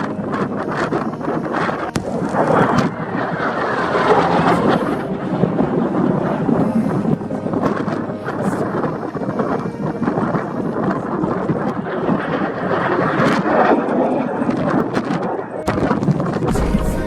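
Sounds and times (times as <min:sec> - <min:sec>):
jet aircraft noise: 0:00.0 - 0:16.4
wind buffeting microphone: 0:00.0 - 0:16.8.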